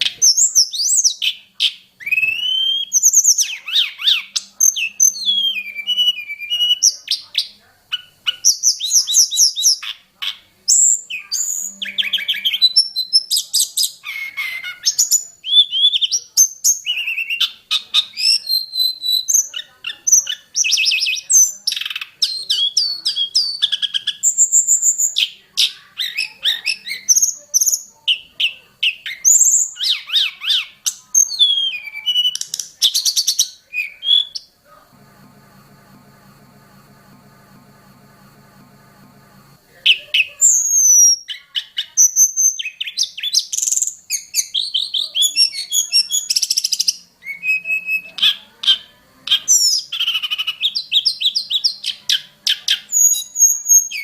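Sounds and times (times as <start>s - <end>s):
songbird singing varied song: 0.0s - 34.5s, 39.7s - 54.0s.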